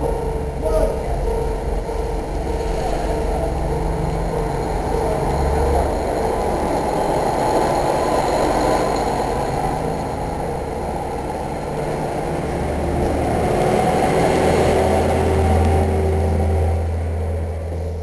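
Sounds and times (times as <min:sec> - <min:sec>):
diesel railcar engine rumble: 0:00.0 - 0:18.0
train wheels on rails: 0:00.0 - 0:18.0.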